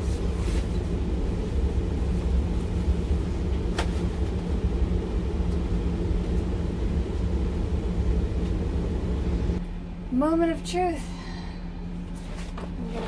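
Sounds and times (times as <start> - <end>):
heater blowing: 0.0 - 13.0.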